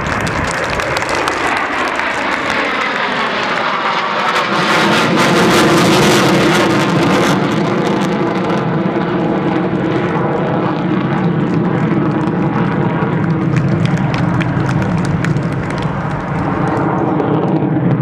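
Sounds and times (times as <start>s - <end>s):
jet passing overhead: 0.0s - 18.0s.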